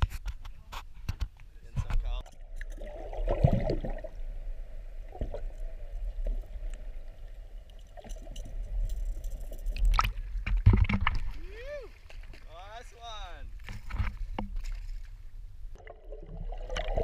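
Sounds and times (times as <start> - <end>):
underwater gurgling and swishing: 1.8 - 12.4, 13.5 - 17.0.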